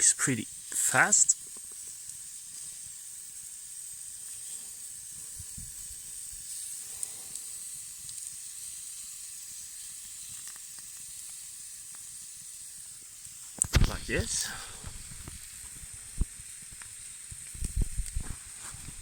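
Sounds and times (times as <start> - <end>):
meat sizzling on hot rock: 0.0 - 19.0
small pops and crackles: 0.0 - 19.0.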